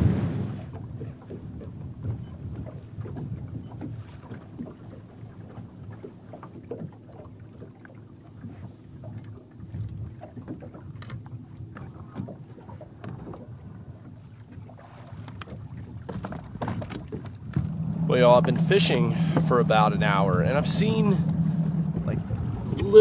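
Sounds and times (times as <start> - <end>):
wind rumbling on microphone: 0.0 - 7.0, 8.4 - 23.0
knocks and taps on a boat: 0.0 - 23.0
water lapping against a boat: 0.0 - 23.0.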